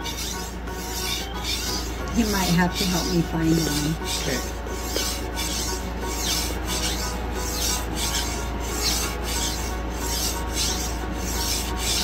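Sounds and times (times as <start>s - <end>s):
knife scraping on sharpening stone: 0.0s - 3.2s, 3.8s - 12.0s.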